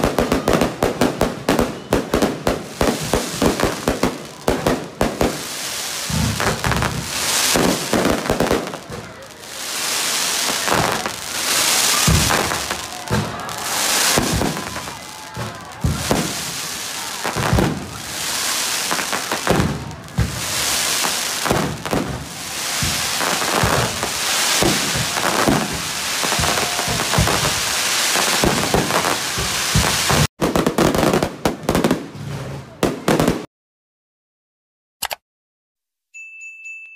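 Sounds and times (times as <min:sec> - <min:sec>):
sparks hissing and crackling: 0:00.0 - 0:30.3
firework shells booming: 0:00.0 - 0:33.5.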